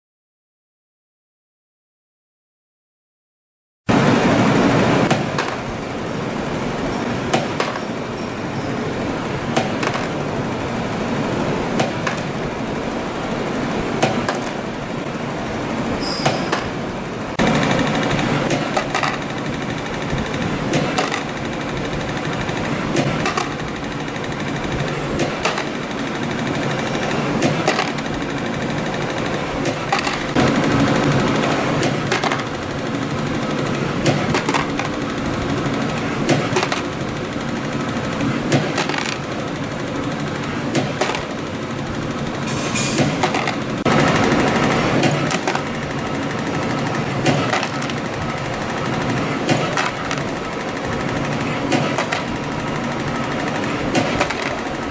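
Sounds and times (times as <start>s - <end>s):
spring coiling machine running: 3.9s - 54.9s.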